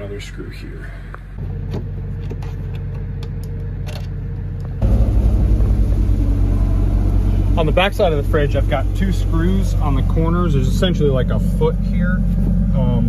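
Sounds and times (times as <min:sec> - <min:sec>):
low mechanical hum: 0:00.0 - 0:13.0
low rumble with pulsing beat: 0:00.0 - 0:13.0.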